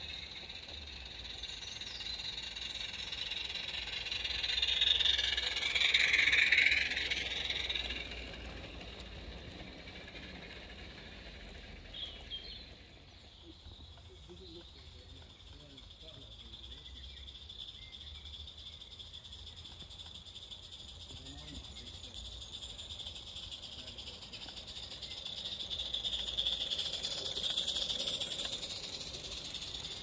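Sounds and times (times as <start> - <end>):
model train rattling on rails: 0.0 - 30.0.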